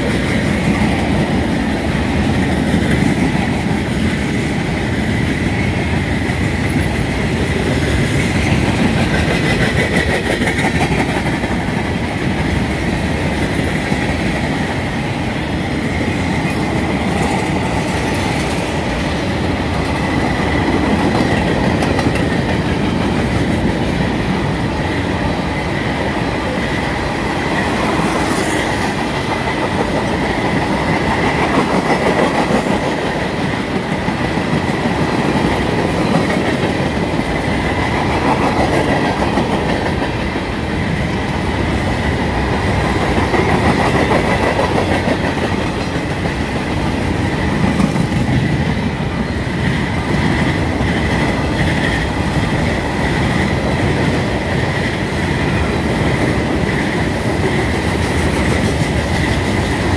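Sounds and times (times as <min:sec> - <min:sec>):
train wheels clattering over rails: 0:00.0 - 0:59.9.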